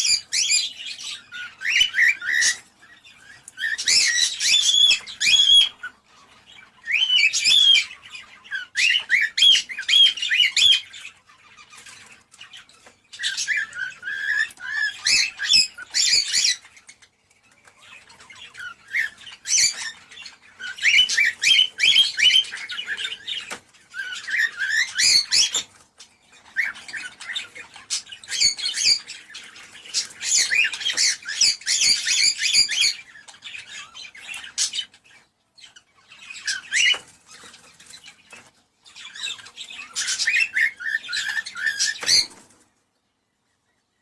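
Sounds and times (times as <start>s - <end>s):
cockatiels chirping and squawking: 0.0s - 42.8s.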